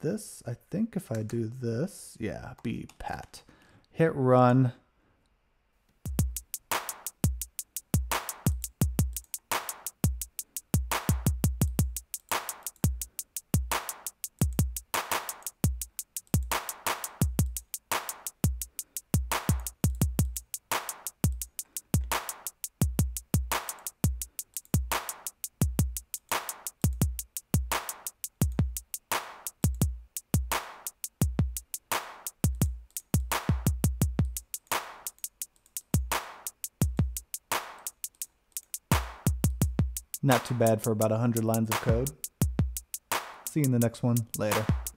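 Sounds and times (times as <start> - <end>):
hi-hat ticks: 1.0 - 1.6, 5.9 - 44.9.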